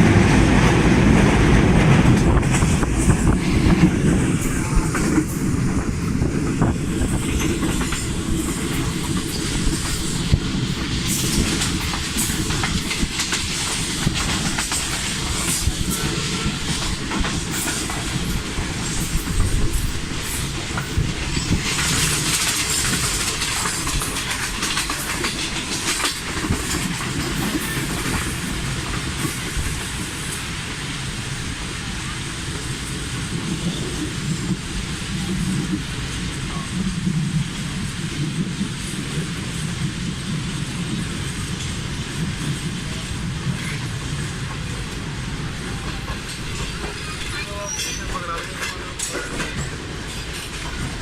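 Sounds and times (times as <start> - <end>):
train wheels clattering over rail joints: 0.0 - 31.7, 32.4 - 51.0
train hiss: 0.9 - 51.0.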